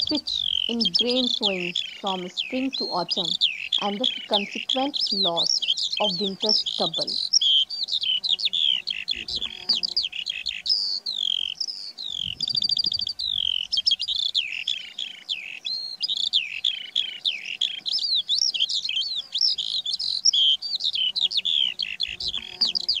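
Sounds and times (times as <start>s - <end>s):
skylark singing: 0.0s - 23.0s.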